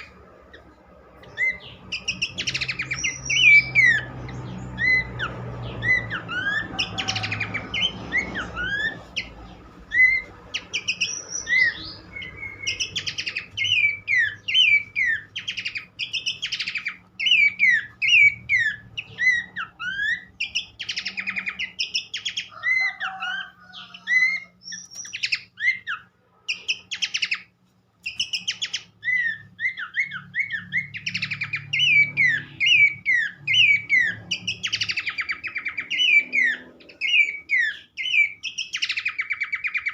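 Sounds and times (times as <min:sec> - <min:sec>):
bird singing whistled chirps: 0:00.0 - 0:39.9.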